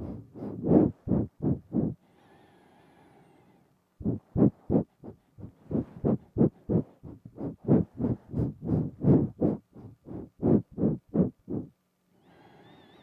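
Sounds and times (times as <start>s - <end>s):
nasal breaths: 0.0s - 12.9s.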